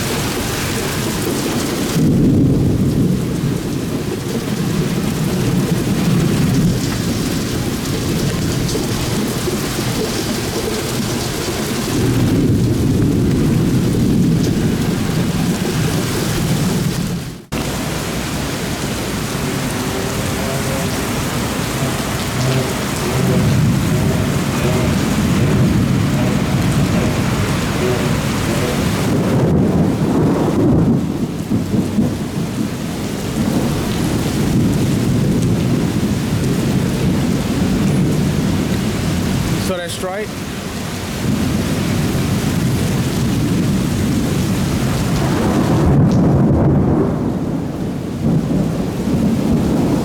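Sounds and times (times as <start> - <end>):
heavy rain falling: 0.0 - 50.0
rolling thunder: 0.0 - 50.0.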